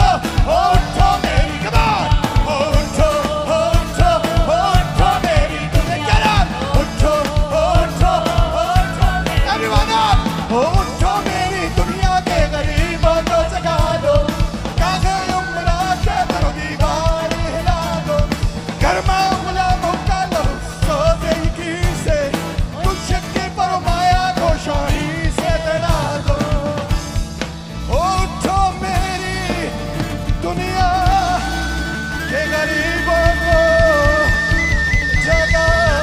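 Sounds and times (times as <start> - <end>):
person singing: 0.0 - 27.2, 27.9 - 36.0
bass guitar: 0.0 - 36.0
drum kit: 0.0 - 36.0
electric guitars: 0.0 - 36.0.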